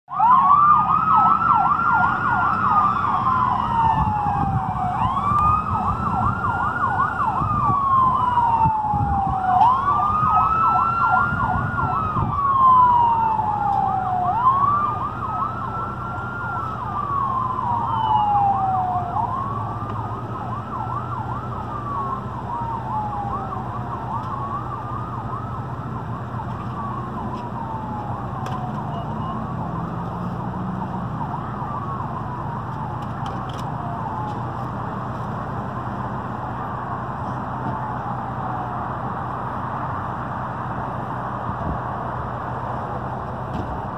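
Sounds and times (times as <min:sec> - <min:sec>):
ambulance siren wailing and yelping: 0:00.1 - 0:43.9
low road rumble: 0:00.1 - 0:43.9.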